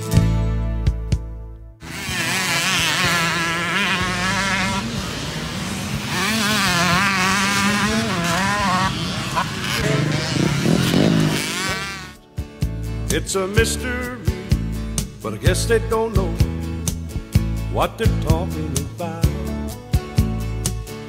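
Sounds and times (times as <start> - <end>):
dirt bike engines revving: 1.8 - 19.5.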